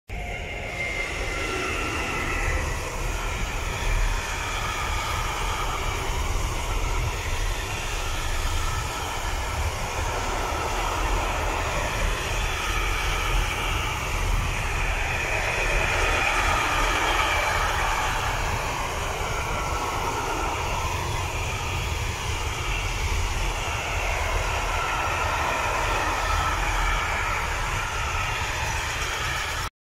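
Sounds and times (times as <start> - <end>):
train wheels rumbling on rails: 0.1 - 29.7.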